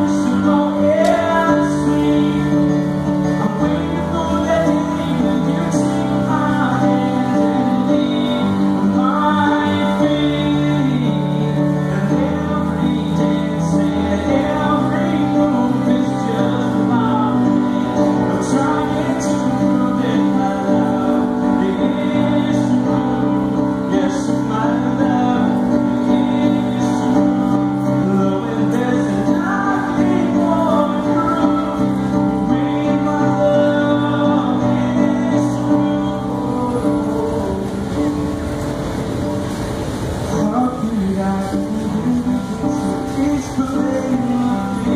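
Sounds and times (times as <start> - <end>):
man singing: 0.0 - 38.8, 40.3 - 44.9
piano chords: 0.0 - 44.9.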